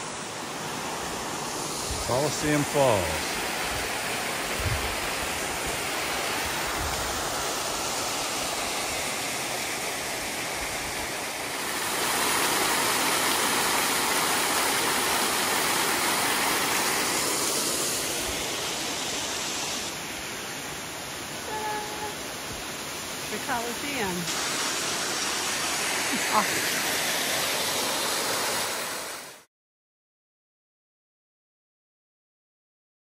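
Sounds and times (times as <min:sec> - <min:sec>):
waterfall rushing: 0:00.0 - 0:29.5.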